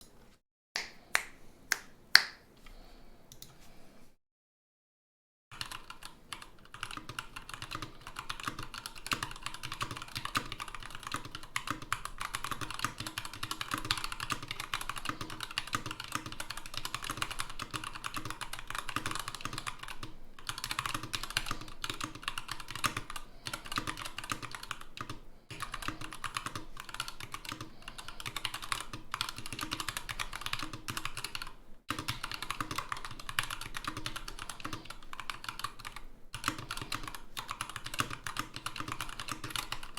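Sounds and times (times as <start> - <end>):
mechanical keyboard typing: 5.5 - 39.9.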